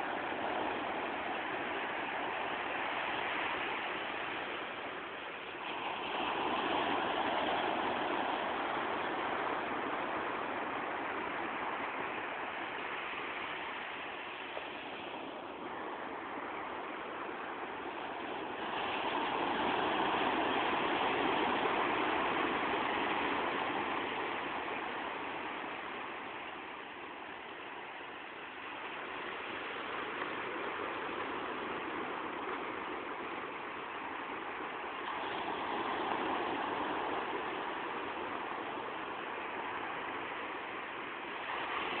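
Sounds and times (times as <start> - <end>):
ocean surf breaking: 0.0 - 42.0.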